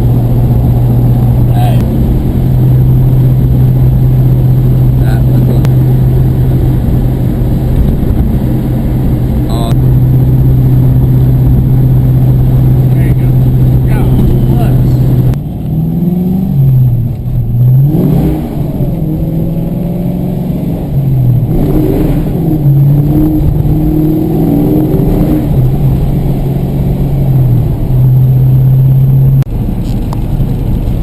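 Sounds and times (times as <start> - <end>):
car engine running: 0.0 - 31.0
low road rumble: 0.0 - 31.0.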